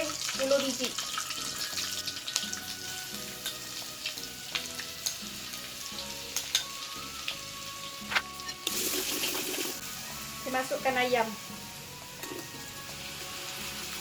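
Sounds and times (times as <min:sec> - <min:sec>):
garlic sizzling in oil: 0:00.0 - 0:14.0.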